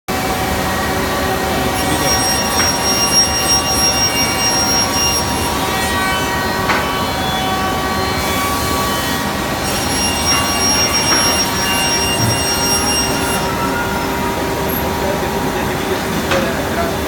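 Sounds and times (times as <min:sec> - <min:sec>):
cnc router spindle whine: 0:00.1 - 0:17.0.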